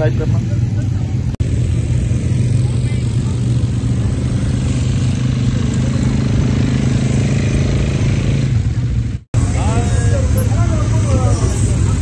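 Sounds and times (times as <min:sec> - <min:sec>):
quad bike engines low hum: 0:00.0 - 0:12.0.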